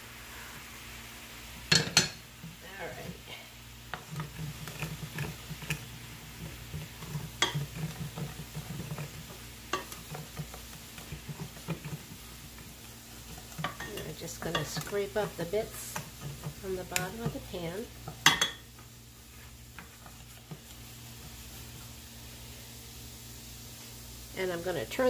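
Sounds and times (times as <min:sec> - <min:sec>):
broth sizzling: 0:00.0 - 0:25.0
wooden spoon scraping a pan: 0:01.7 - 0:23.0.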